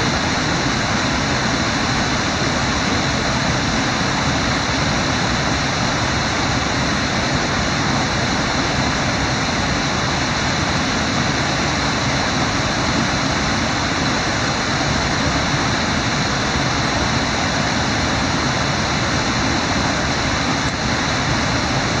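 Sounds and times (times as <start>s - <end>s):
river water rushing through rapids: 0.0s - 22.0s.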